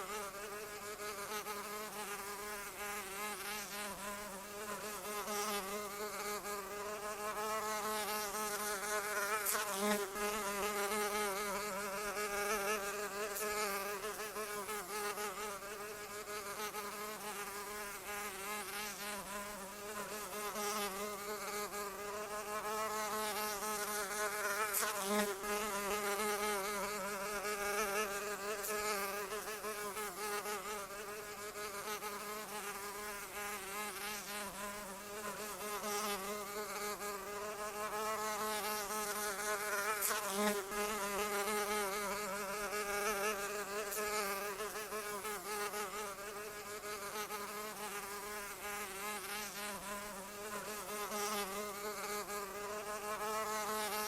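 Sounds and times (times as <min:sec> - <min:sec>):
insect wings buzzing: 0:00.0 - 0:54.0.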